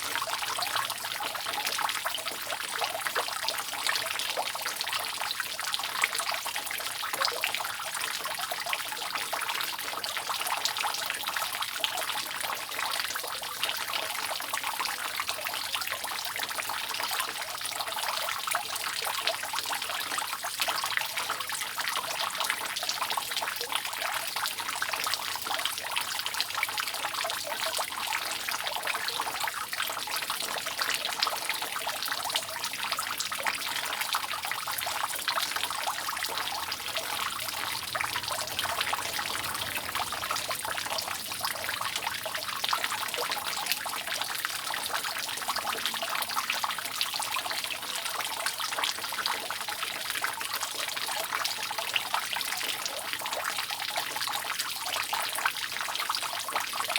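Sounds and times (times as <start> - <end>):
continuous water trickle: 0.0 - 56.9
water dripping from a roof: 0.0 - 56.9.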